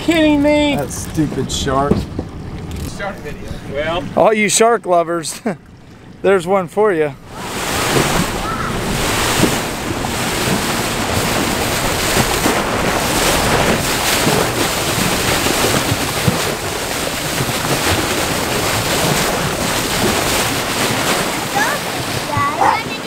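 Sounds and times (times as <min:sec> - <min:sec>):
wind buffeting microphone: 0:00.0 - 0:04.5, 0:06.9 - 0:23.0
water splashing along boat hull: 0:00.0 - 0:23.0.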